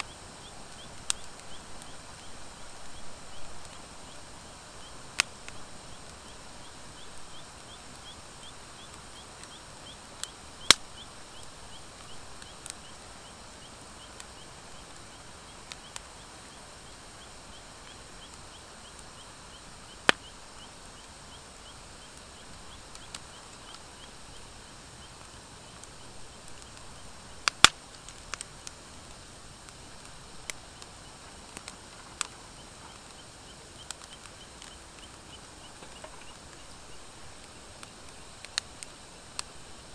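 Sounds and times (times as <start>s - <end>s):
fire crackles and pops: 0.0s - 39.9s
wood fire hissing: 0.0s - 39.9s.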